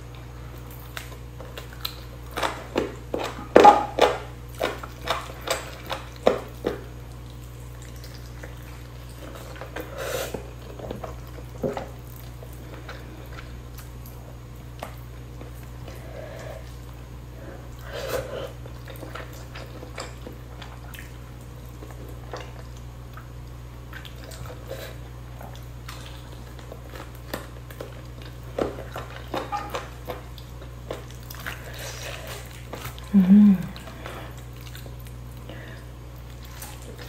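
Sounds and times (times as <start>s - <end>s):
steady low hum: 0.0s - 37.0s
wet chewing: 0.0s - 37.0s.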